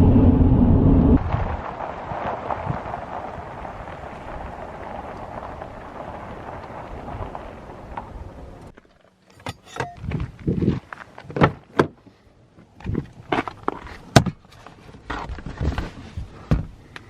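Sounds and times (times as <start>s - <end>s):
road and engine noise in car: 0.0s - 1.2s, 4.0s - 17.0s.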